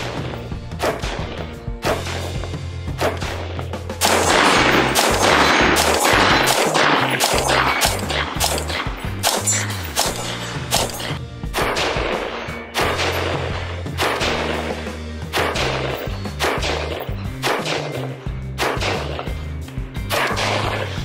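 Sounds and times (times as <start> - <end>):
background music with bass: 0.0 - 21.0
rifle shots: 3.0 - 19.4, 20.1 - 21.0.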